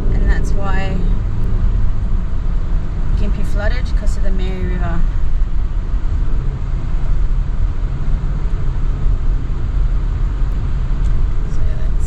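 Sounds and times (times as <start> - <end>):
car road noise and engine rumble: 0.0 - 12.0.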